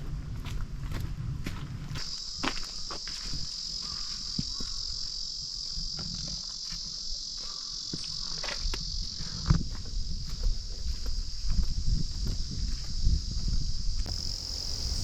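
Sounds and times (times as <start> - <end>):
insects trilling: 2.0 - 15.0.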